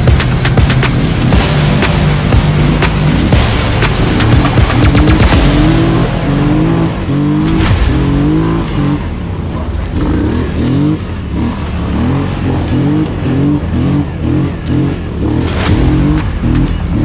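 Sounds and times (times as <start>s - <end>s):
quad engine revving: 0.0s - 17.0s.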